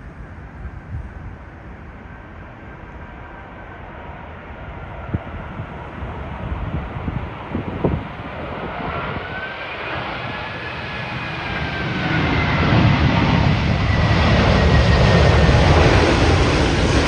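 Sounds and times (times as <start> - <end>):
deep aircraft rumble: 0.0 - 17.0
jet engine whine: 0.0 - 17.0
jet roar: 0.0 - 17.0.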